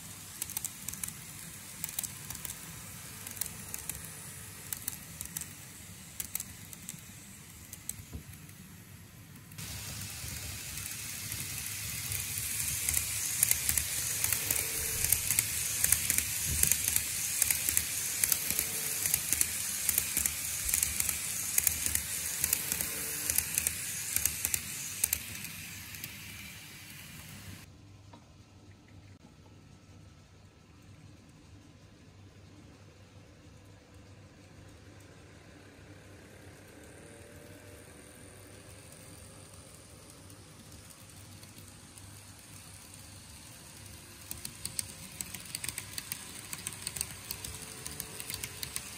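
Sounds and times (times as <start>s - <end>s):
model train rattling on track: 0.0s - 9.0s, 9.6s - 27.6s, 35.6s - 48.9s.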